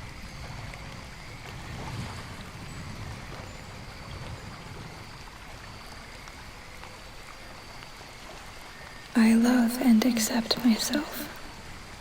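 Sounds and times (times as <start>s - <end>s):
rain: 0.0s - 12.0s
running water: 0.0s - 12.0s.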